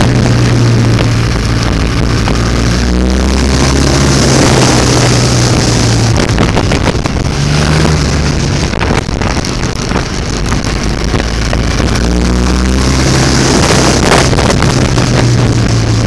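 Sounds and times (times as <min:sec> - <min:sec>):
motorcycle engine at speed: 0:00.0 - 0:16.0
wind noise on microphone: 0:00.0 - 0:16.0.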